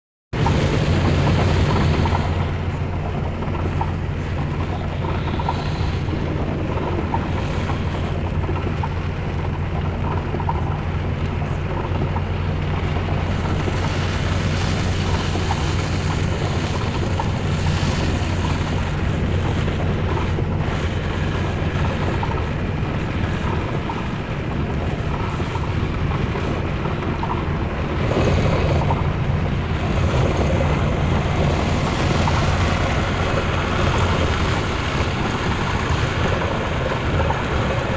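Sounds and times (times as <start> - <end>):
vehicle engine and road drone: 0.0 - 37.9
rain and wet tyres hiss: 0.4 - 37.9.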